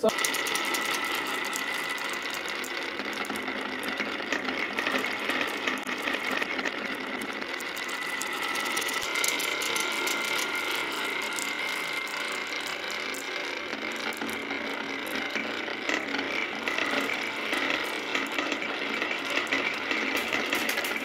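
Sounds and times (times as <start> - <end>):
marbles rattling down wooden track: 0.0 - 21.0.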